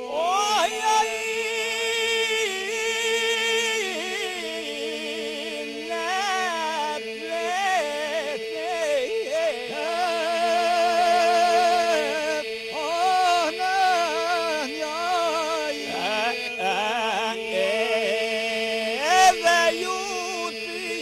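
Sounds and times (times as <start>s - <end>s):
group singing drone note: 0.0s - 21.0s
lead voice singing melody: 0.0s - 21.0s.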